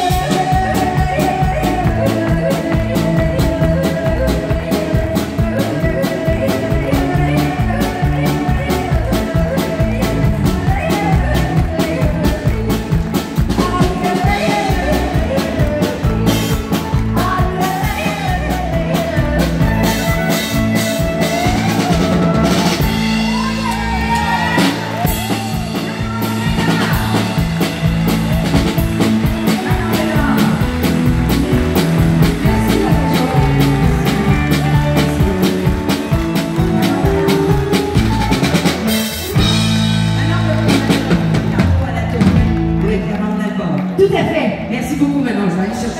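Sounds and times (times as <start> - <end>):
drum-kit beat: 0.0 - 42.8
electric bass: 0.0 - 45.9
keyboard: 0.0 - 45.9
woman singing: 0.0 - 45.9.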